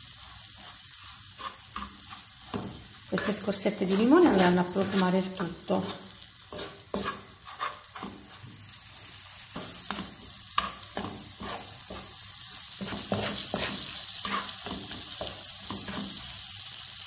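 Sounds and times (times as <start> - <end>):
wooden spoon scraping a pan: 0.0 - 16.4
butter sizzling in a frying pan: 0.0 - 17.0.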